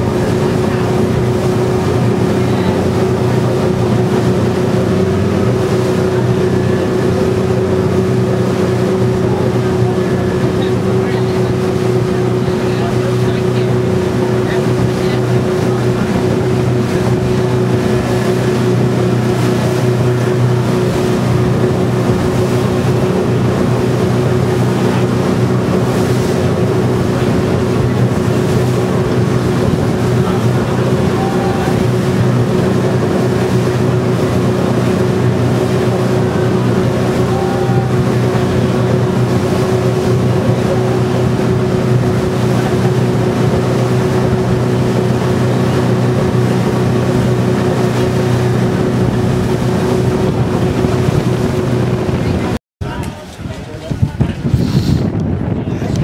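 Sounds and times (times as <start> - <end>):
boat engine droning: 0.0 - 56.0
wind and water hiss: 0.0 - 56.0.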